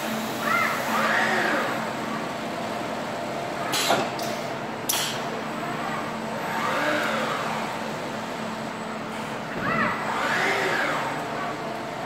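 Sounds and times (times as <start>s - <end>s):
machinery and conveyor hum: 0.0s - 12.0s.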